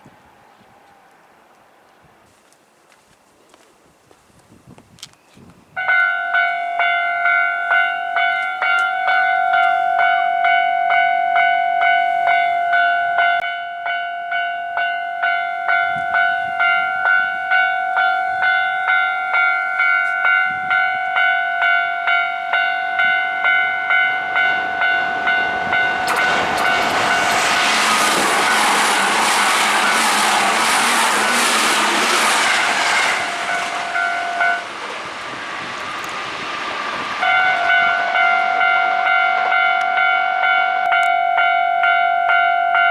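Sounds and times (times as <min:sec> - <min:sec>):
level-crossing warning bell: 0:05.8 - 0:42.9
train passing: 0:05.8 - 0:42.9.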